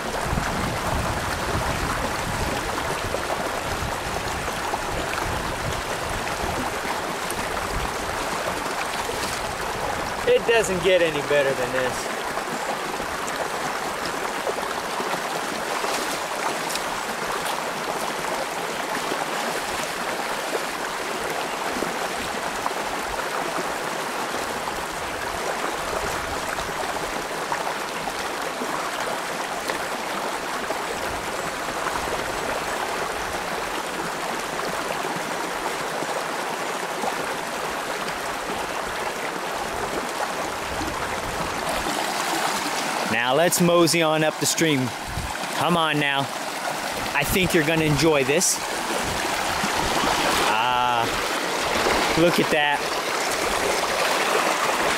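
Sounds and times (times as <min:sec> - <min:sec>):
creek water rushing over stones: 0:00.0 - 0:54.9.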